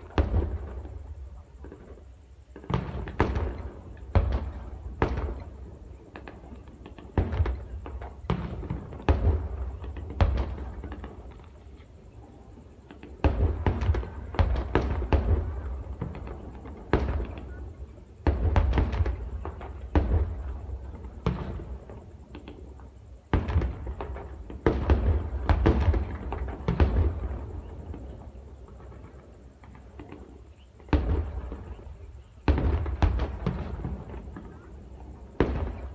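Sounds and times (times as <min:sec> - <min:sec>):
distant gunfire and explosions: 0:00.0 - 0:35.9.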